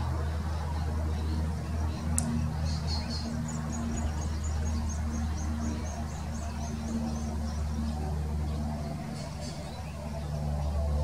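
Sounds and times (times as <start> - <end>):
bird chicks peeping: 0.0 - 11.0.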